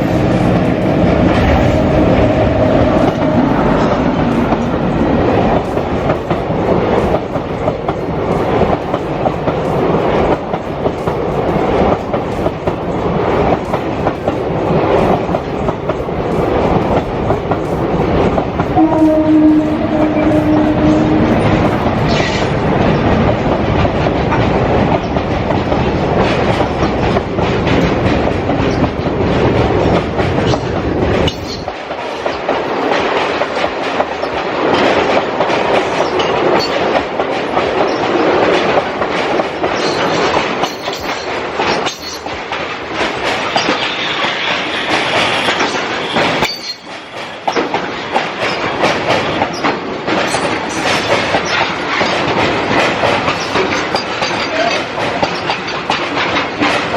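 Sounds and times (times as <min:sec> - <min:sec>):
train wheels clattering on rails: 0:00.0 - 0:56.9.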